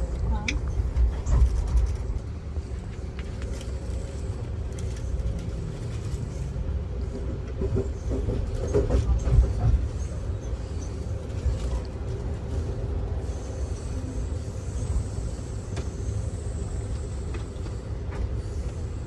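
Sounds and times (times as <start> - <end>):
train clicks and rattles: 0.0 - 19.0
train rumbling: 0.0 - 19.0.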